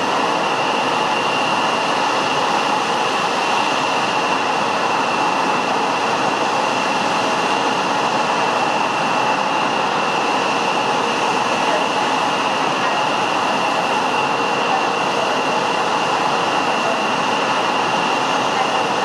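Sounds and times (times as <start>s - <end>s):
jet engine high whine: 0.0s - 19.0s
jet engines rushing: 0.0s - 19.0s.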